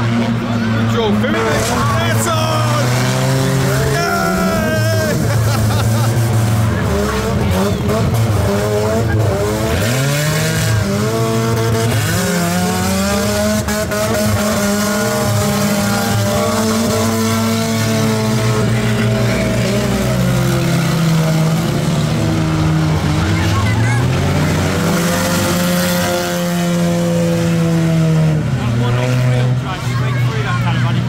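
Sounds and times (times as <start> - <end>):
racing car engines revving: 0.0 - 31.0.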